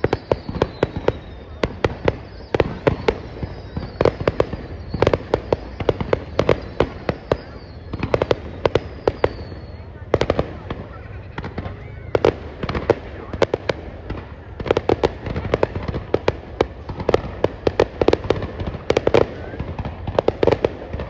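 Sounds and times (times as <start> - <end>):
fireworks cracking and popping: 0.0 - 21.0
low background noise: 0.0 - 21.0.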